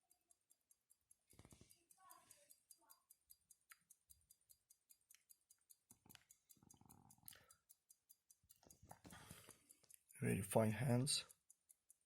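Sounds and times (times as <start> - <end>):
pocket watch ticking: 0.0 - 12.0.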